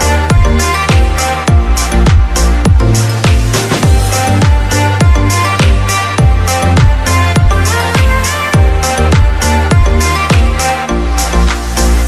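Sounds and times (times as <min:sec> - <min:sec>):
electronic music with beat: 0:00.0 - 0:12.0
held synth notes: 0:00.0 - 0:12.0
hi-hat hits: 0:00.0 - 0:12.0
deep kick drum: 0:00.3 - 0:10.6.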